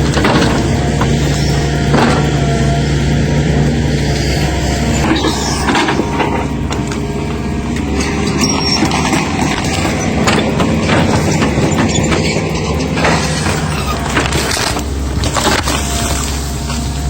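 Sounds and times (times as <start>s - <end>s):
heavy machinery running: 0.0s - 17.0s.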